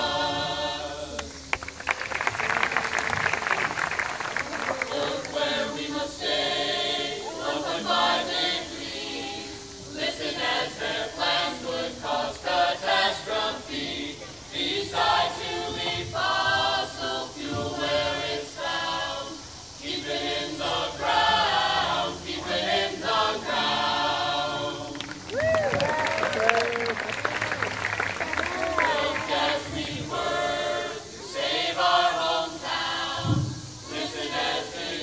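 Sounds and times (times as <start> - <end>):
choir singing: 0.0 - 1.6, 4.3 - 25.3, 27.7 - 35.0.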